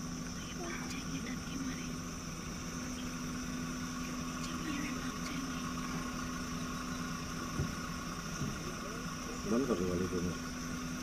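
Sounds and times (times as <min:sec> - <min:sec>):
insects chirring: 0:00.0 - 0:11.0
vehicle engine humming: 0:00.0 - 0:11.0.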